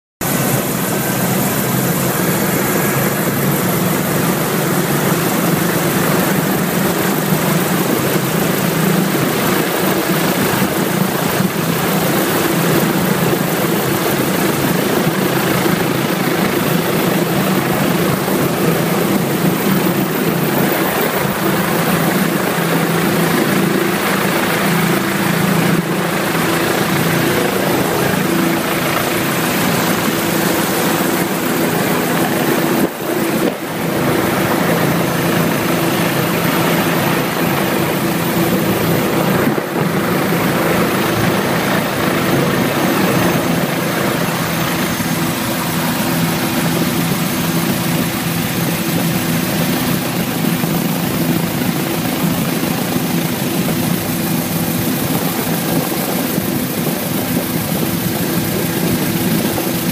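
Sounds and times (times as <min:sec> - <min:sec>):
helicopter engine and rotor drone: 0:00.2 - 0:59.9.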